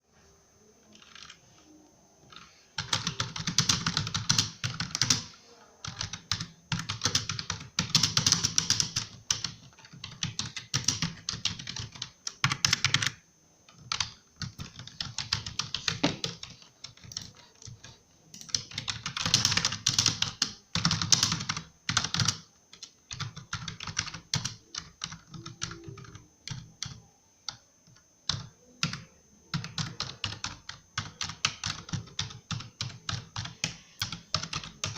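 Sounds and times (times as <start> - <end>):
computer keyboard typing: 0.9 - 1.6, 2.2 - 34.9.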